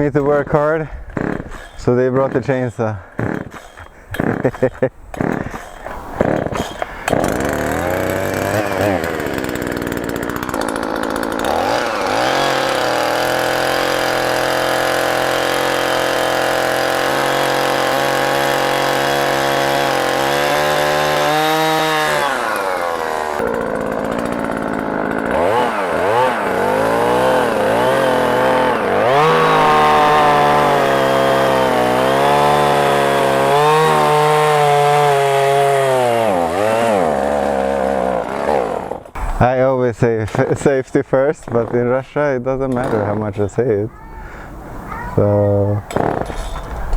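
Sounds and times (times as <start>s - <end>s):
chainsaw cutting wood: 0.0s - 42.0s, 42.6s - 46.9s.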